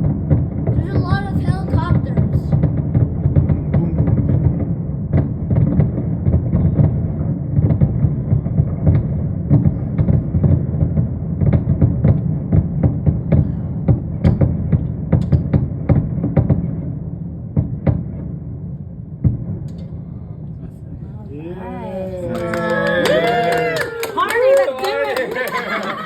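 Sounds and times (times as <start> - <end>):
fireworks booming: 0.0 - 21.4.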